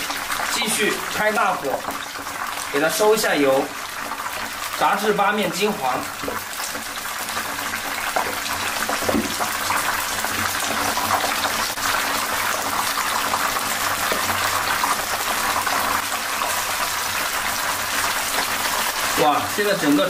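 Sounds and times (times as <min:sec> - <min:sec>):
oil sizzling and bubbling: 0:00.0 - 0:20.0.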